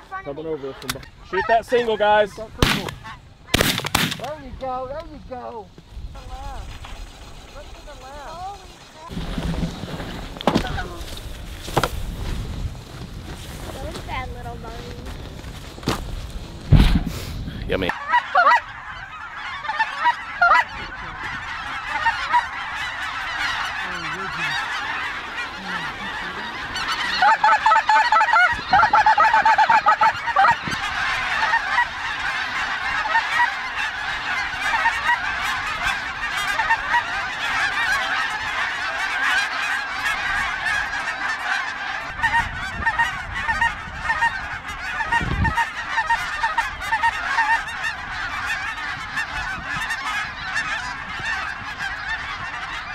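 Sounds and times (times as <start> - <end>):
geese yelping and honking: 0.0 - 11.9, 12.9 - 15.6, 17.8 - 52.9.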